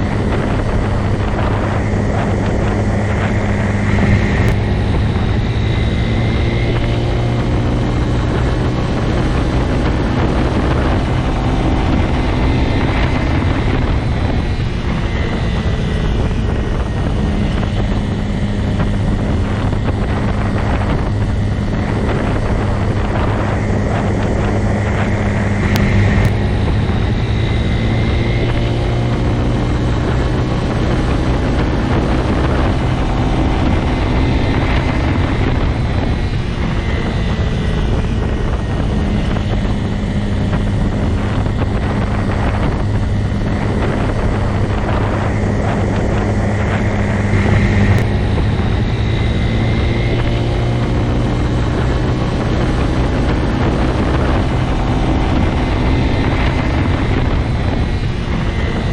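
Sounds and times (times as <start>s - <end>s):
motorcycle engine drone: 0.0s - 58.9s
wind rush on microphone: 0.0s - 58.9s.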